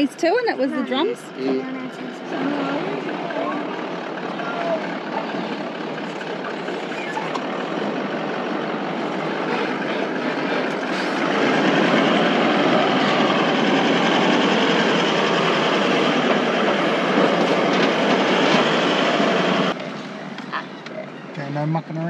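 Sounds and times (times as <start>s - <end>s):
vehicle driving on dirt track: 2.2s - 22.0s.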